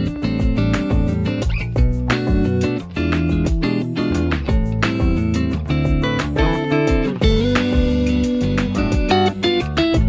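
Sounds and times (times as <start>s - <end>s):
instrumental plucked guitar music: 0.0s - 10.0s.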